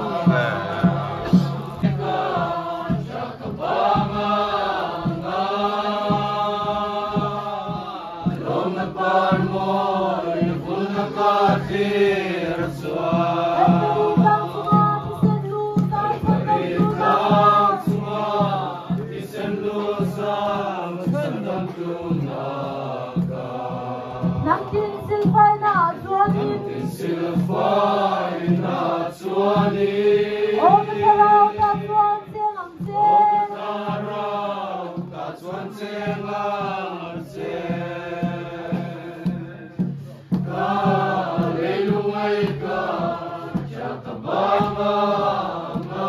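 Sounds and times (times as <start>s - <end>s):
group of people singing: 0.0s - 46.0s.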